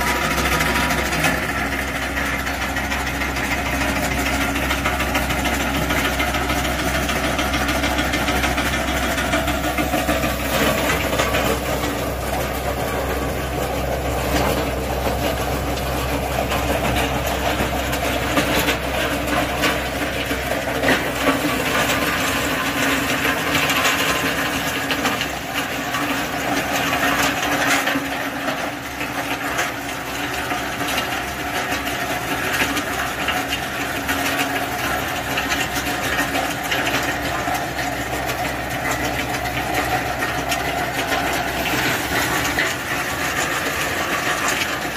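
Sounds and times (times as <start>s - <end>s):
thresher humming and rattling: 0.0s - 44.9s.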